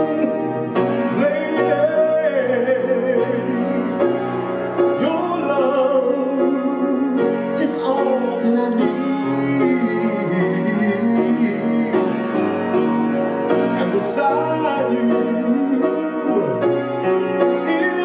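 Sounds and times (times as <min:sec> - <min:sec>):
slow piano ballad: 0:00.0 - 0:18.0.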